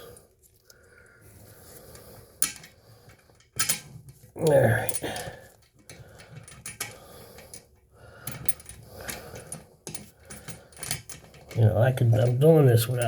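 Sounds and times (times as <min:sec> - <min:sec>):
metal bolts and washers clinking: 0:02.4 - 0:13.0.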